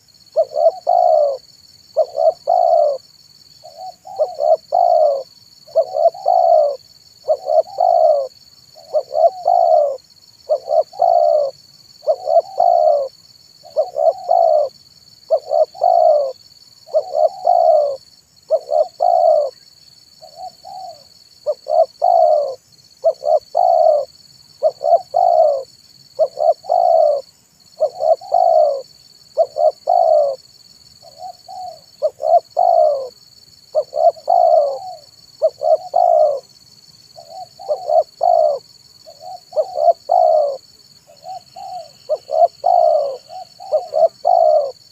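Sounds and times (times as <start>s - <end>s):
dove cooing: 0.0s - 3.0s, 3.6s - 19.6s, 20.2s - 36.5s, 37.1s - 44.9s.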